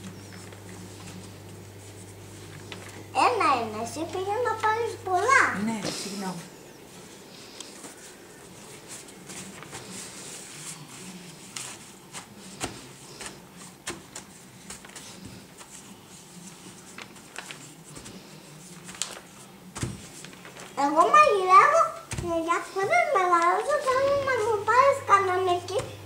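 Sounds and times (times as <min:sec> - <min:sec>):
hands kneading dough: 0:00.0 - 0:26.0.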